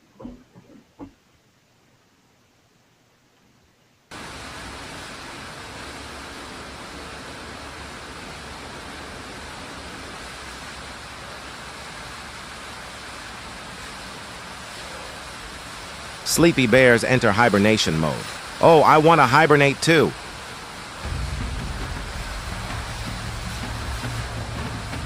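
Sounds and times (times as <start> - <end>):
steady rushing hiss: 3.9 - 25.0.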